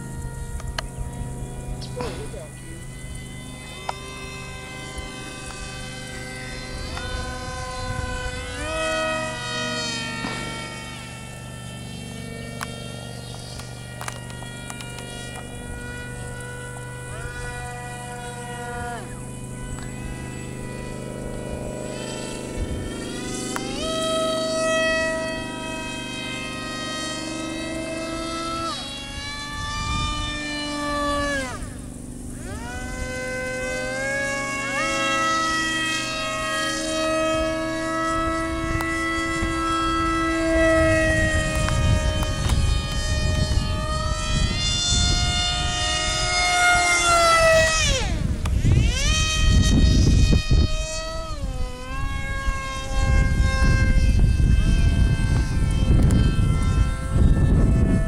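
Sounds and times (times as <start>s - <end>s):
model plane propellers whining: 0.0s - 58.0s
wind rumble on microphone: 0.0s - 58.0s.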